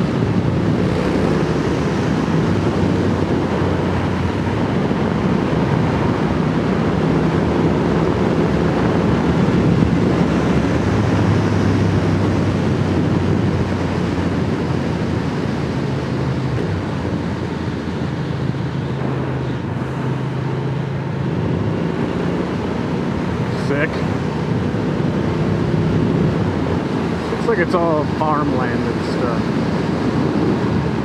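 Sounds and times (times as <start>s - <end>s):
wind rush: 0.0s - 31.0s.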